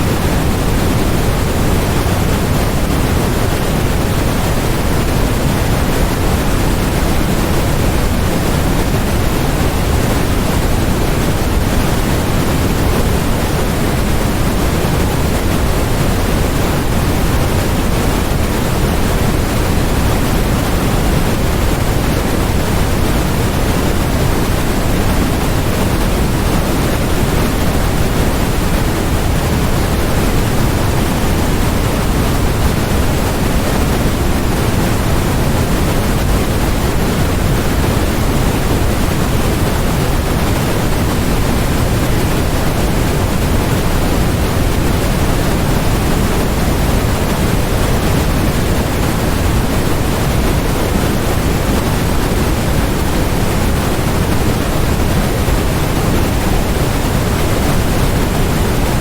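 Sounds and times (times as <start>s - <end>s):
steady low-heavy synthetic hiss: 0.0s - 59.0s.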